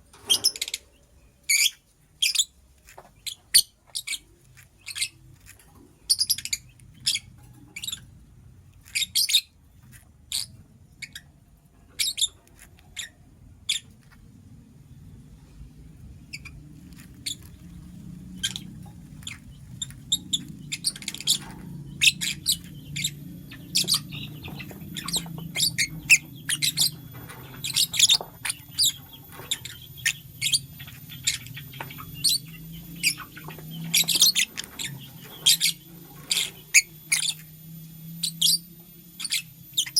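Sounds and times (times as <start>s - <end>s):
bird chirping: 0.2s - 14.3s, 14.9s - 39.9s
low steady hum: 4.1s - 39.9s.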